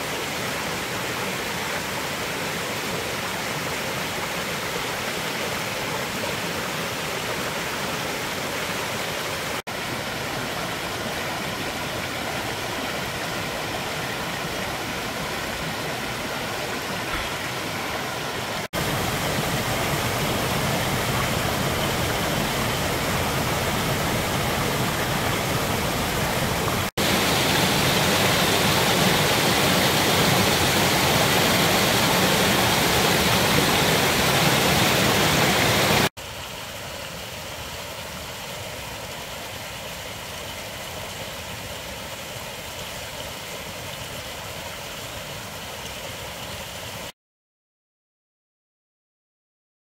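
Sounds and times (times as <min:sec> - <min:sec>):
stream rushing over rocks: 0:00.0 - 0:47.1.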